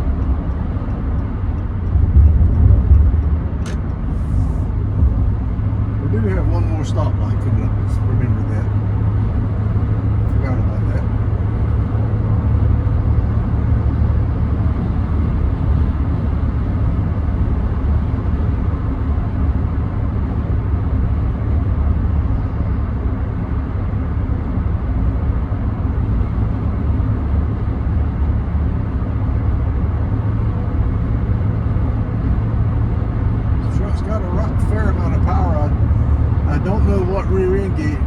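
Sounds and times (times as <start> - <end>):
low engine hum: 0.0 - 38.0
tyre and road noise: 0.0 - 38.0.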